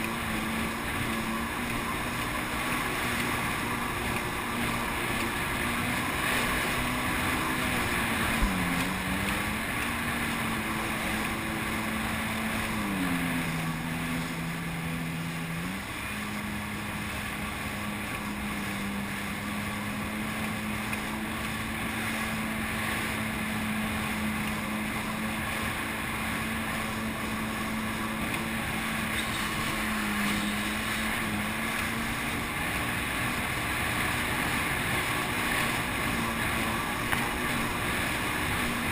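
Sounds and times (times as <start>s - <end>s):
jet ski engine running: 0.0s - 38.9s
water and wind rushing: 0.0s - 38.9s.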